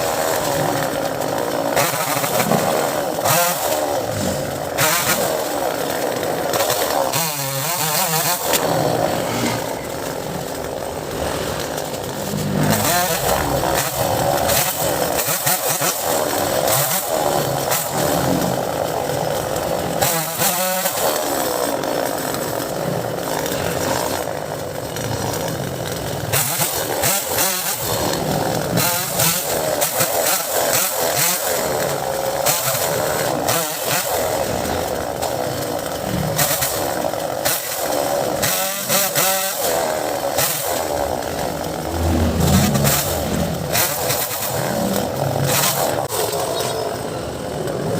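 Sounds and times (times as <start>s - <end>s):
chainsaw revving: 0.0s - 47.9s.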